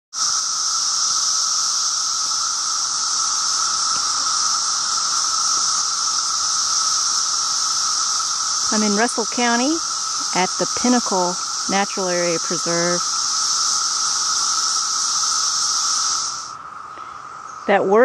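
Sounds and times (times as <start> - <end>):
cicadas whirring drone: 0.1 - 18.0.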